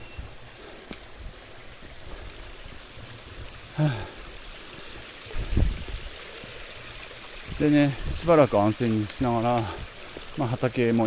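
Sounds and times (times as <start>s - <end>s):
flowing stream water: 0.0s - 11.0s.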